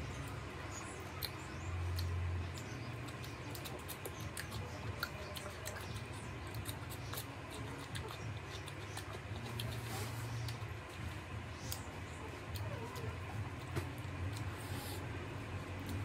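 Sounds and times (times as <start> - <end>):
chewing and lip-smacking: 0.0 - 16.0
steady low hum: 0.0 - 16.0.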